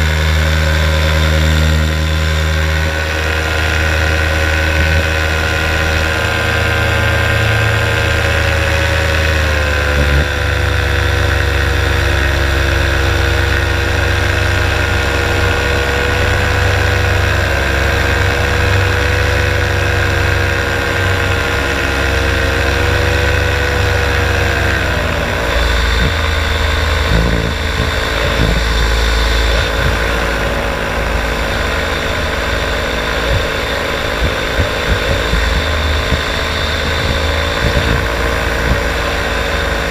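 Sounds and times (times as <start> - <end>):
paramotor engine and propeller: 0.0 - 39.9
wind rumble on microphone: 6.3 - 39.9.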